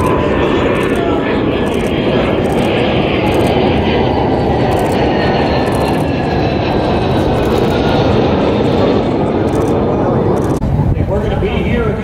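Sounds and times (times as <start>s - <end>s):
jet engine running loud: 0.0s - 12.0s.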